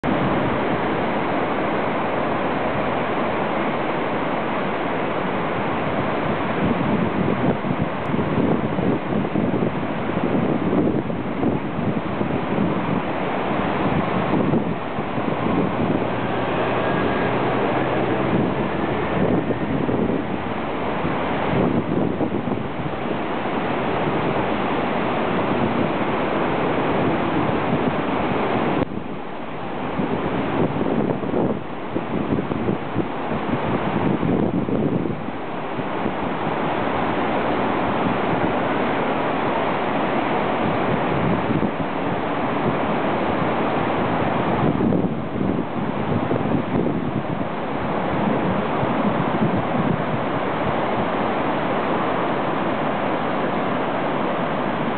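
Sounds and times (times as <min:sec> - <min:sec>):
river rushing: 0:00.0 - 0:54.9
wind buffeting microphone: 0:00.0 - 0:54.9.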